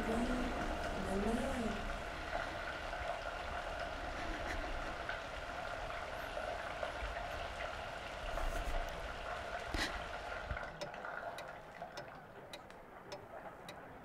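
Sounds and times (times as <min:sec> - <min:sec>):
faint steady hum: 0:00.0 - 0:14.0
water running: 0:00.0 - 0:14.0.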